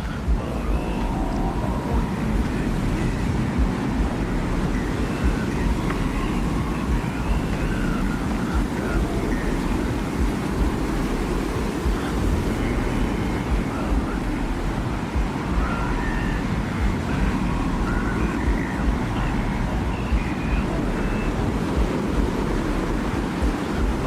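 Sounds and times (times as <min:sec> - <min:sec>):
faint wind whistling: 0:00.0 - 0:24.0
wind roaring: 0:00.0 - 0:24.0.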